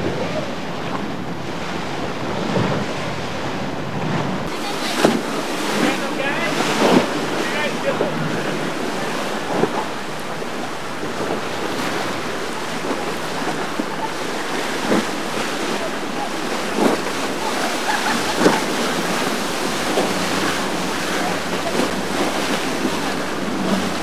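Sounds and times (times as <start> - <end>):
faint boat engine hum: 0.0 - 24.0
waves breaking around boats: 0.0 - 24.0
wind buffeting microphone: 0.0 - 24.0
sharp water splashes: 4.4 - 24.0.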